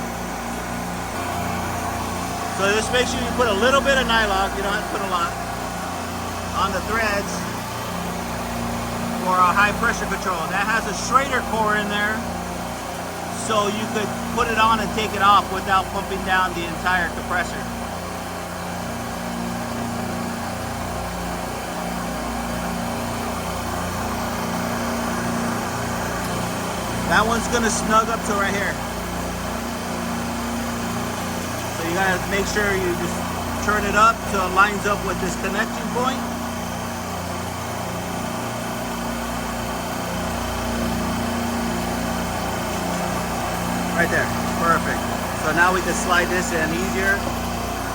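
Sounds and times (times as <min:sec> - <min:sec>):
machinery humming: 0:00.0 - 0:47.9.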